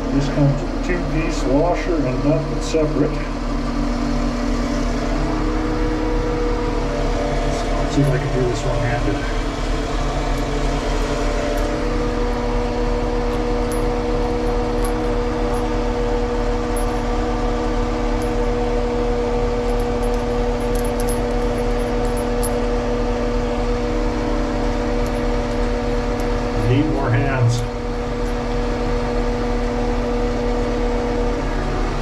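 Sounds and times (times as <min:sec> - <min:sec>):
engine humming steadily: 0:00.0 - 0:32.0.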